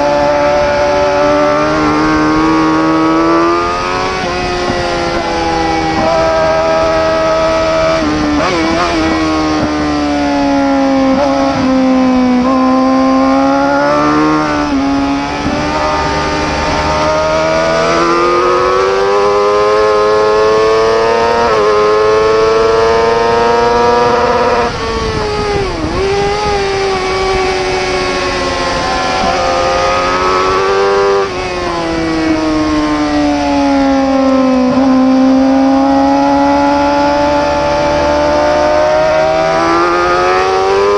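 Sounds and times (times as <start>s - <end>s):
racing motorcycle engine revving: 0.0s - 40.9s.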